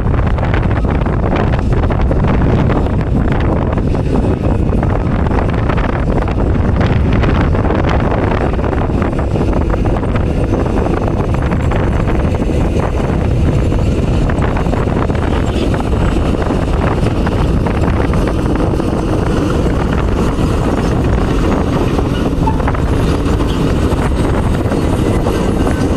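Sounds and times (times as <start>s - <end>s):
diesel engine running: 0.0s - 25.9s
wind buffeting microphone: 0.0s - 25.9s.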